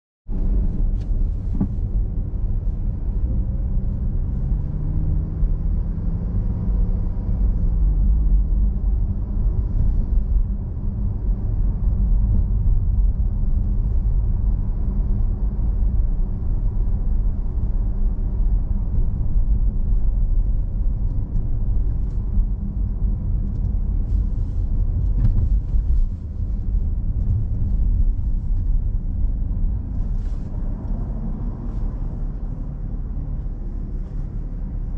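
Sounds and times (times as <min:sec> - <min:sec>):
car engine and road noise: 0:00.2 - 0:34.9.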